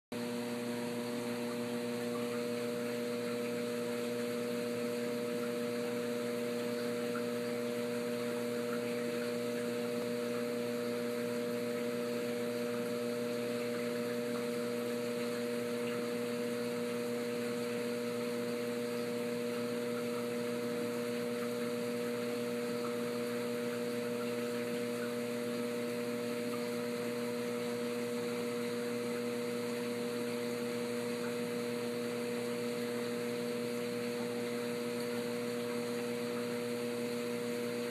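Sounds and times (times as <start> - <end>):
aquarium pumps humming: 0.1 - 37.9.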